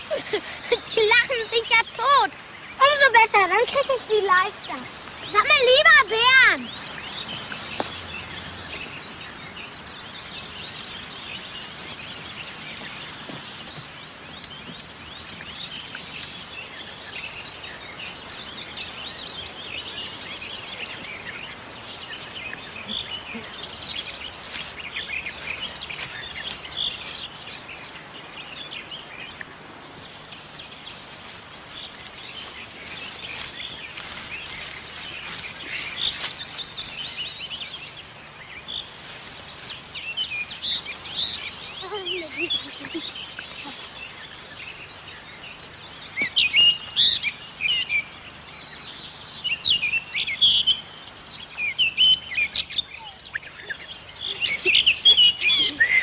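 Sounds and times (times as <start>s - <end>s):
songbirds chirping and singing: 0.0s - 56.0s
steady low hiss: 0.0s - 56.0s.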